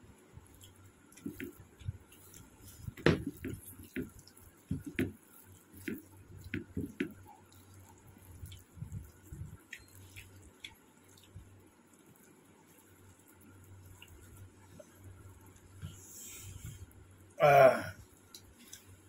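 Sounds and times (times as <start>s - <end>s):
wet eating by hand: 0.3s - 19.0s.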